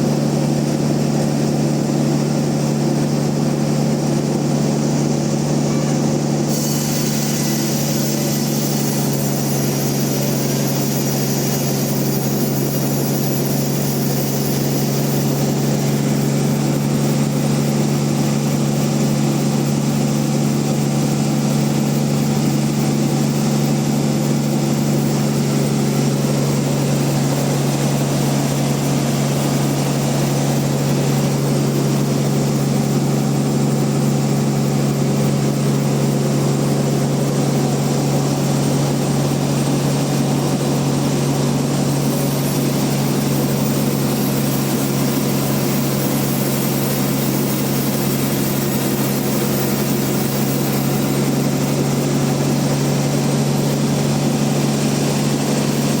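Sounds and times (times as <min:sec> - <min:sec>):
bandsaw mill running: 0:00.0 - 0:56.0.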